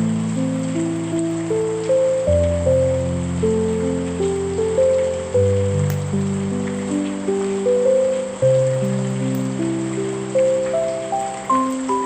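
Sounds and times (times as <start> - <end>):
rain hiss: 0.0 - 12.0
soft slow piano notes: 0.0 - 12.0.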